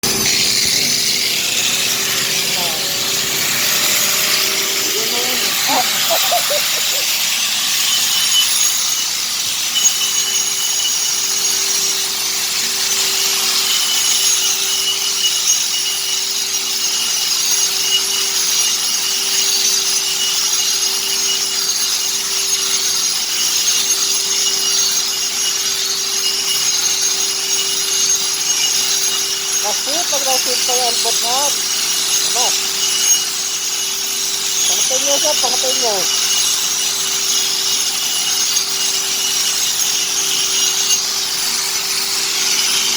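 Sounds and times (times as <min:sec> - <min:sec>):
power tool grinding: 0:00.0 - 0:42.9.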